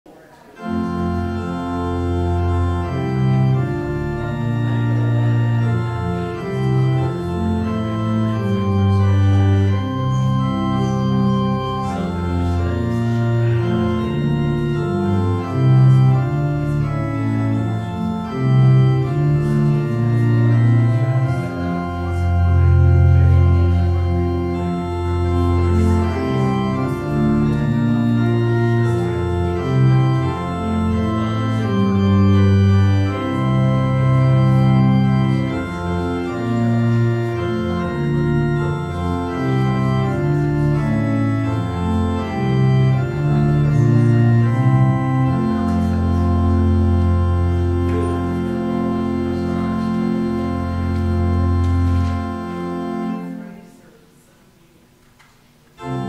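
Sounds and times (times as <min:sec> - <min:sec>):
church organ playing chords: 0:00.1 - 0:56.0.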